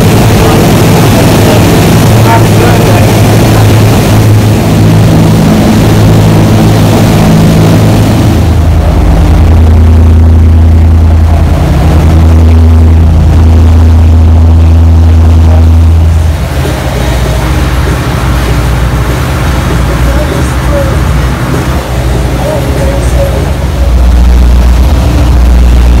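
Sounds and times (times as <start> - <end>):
boat engines droning: 0.0 - 26.0.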